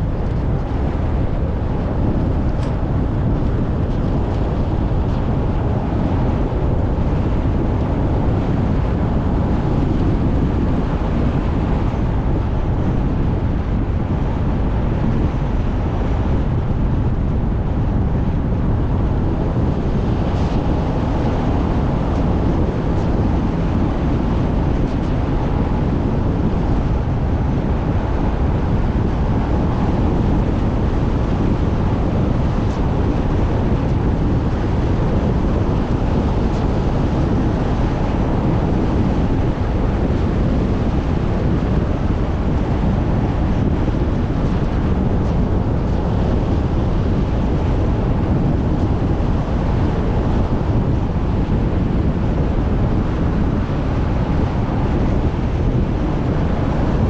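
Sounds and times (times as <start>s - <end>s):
tyre and wind noise: 0.0s - 57.0s.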